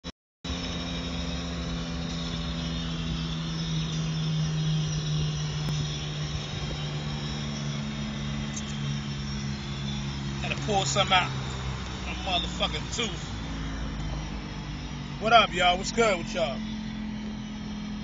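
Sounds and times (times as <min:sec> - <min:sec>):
car engine humming: 0:00.5 - 0:18.0
road noise rushing: 0:00.5 - 0:18.0.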